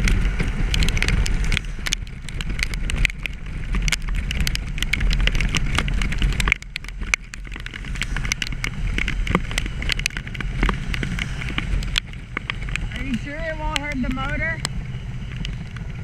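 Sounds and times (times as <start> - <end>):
motorcycle engine rumble: 0.0 - 16.0
raindrops ticking on camera: 0.0 - 16.0
wind rush on microphone: 0.0 - 16.0.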